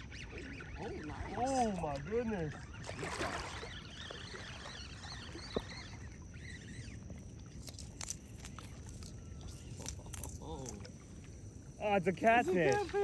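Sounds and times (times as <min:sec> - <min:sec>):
water lapping and sloshing: 0:00.0 - 0:13.0.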